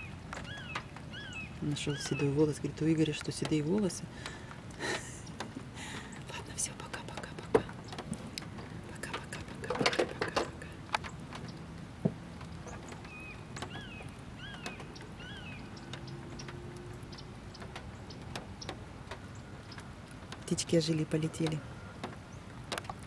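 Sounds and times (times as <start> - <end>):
bird chirping: 0.0 - 4.0, 5.0 - 22.5
rain falling: 0.0 - 23.0.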